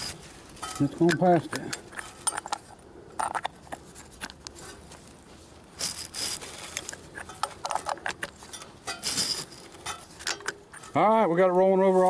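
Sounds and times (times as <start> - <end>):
metal clicks and scraping: 0.0 - 5.0, 5.8 - 11.0.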